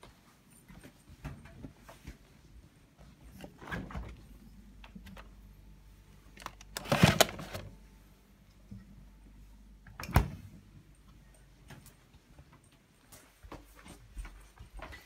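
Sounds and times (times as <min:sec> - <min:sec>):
low steady hum: 0:00.1 - 0:13.6.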